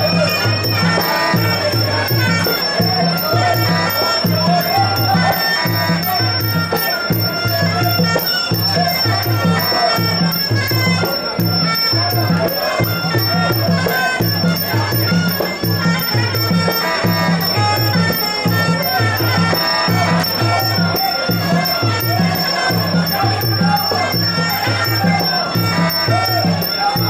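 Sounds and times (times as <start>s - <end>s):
light jingling percussion: 0.0s - 27.0s
reedy oboe-like melody: 0.0s - 27.0s
repeating drum beat: 0.0s - 27.0s.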